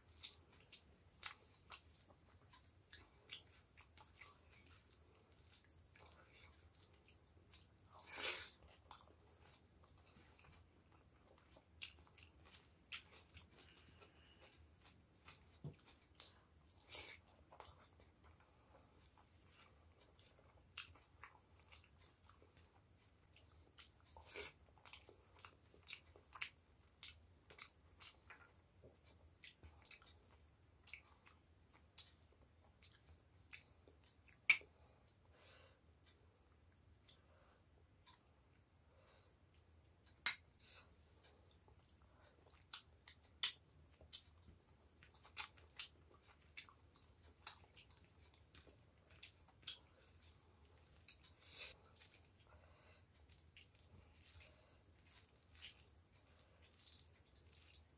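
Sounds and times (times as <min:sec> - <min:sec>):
chewing clicks and smacks: 0:00.0 - 0:34.8, 0:39.5 - 0:57.9.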